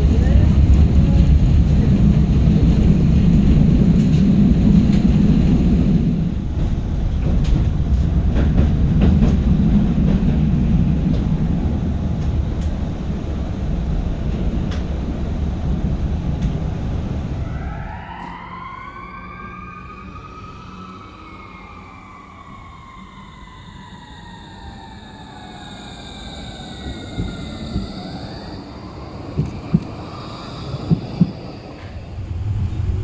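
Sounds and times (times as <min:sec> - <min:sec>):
tram rumbling on rails: 0:00.0 - 0:33.0.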